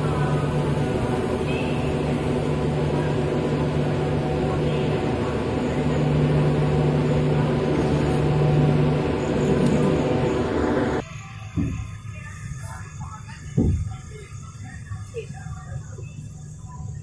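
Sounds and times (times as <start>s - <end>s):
constant low hum: 0.0s - 17.0s
train wheels rumbling on rails: 0.0s - 17.0s.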